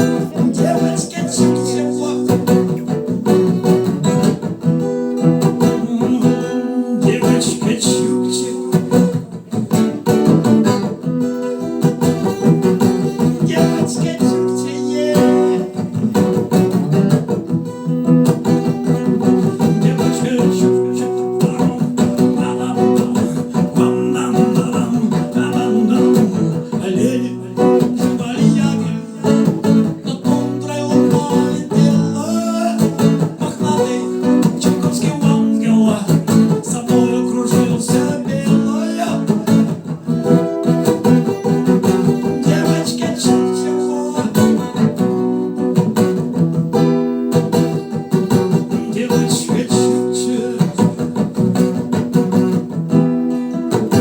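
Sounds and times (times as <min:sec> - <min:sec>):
instrumental rock with strummed guitar: 0:00.0 - 0:54.0.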